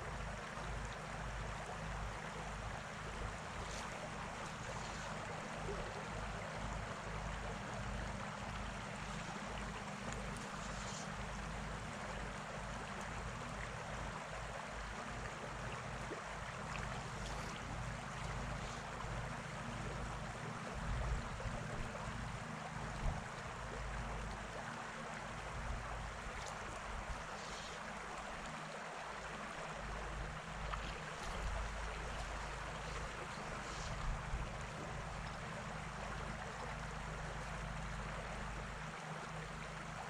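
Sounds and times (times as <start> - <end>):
river water flowing: 0.0 - 40.0.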